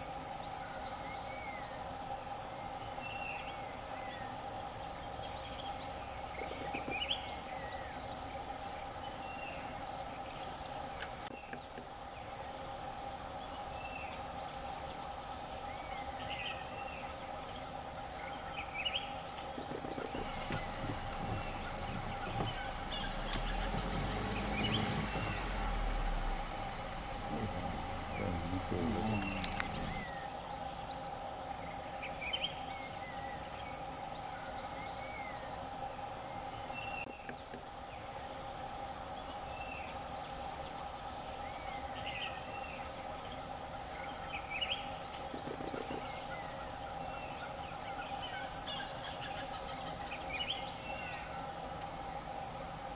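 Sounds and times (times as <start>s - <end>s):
insect drone: 0.0s - 52.9s.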